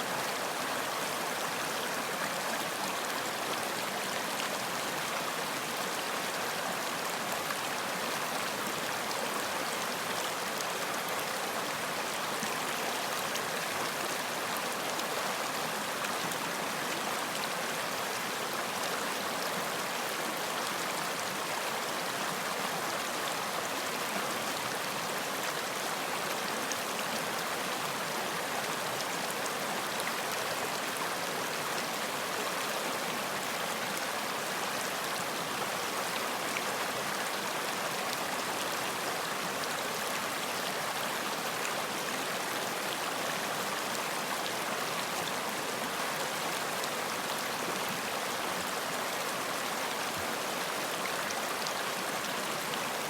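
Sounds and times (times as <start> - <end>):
stream rushing and splashing: 0.0 - 53.0.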